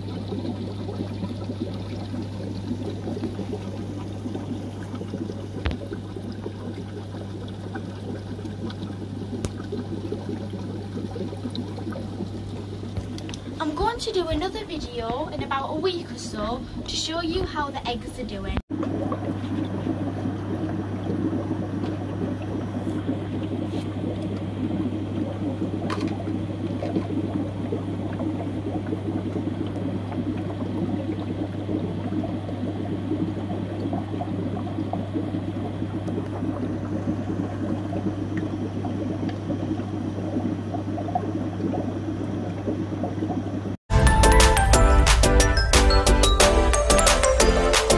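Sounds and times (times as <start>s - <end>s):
constant low hum: 0.0s - 43.8s
air stone bubbling underwater: 0.0s - 47.9s.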